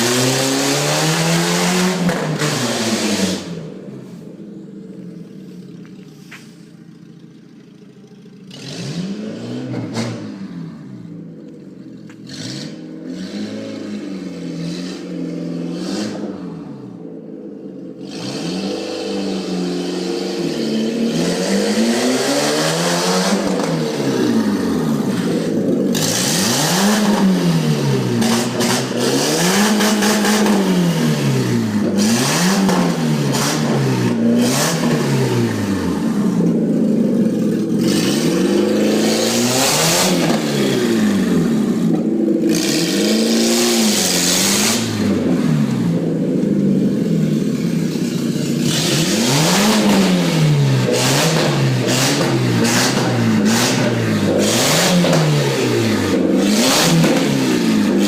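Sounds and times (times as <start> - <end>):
loud car engine revving: 0.0 - 58.0.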